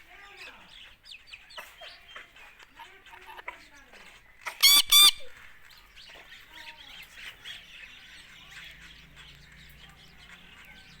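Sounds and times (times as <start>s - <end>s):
parakeet chirping and chattering: 0.1s - 11.0s.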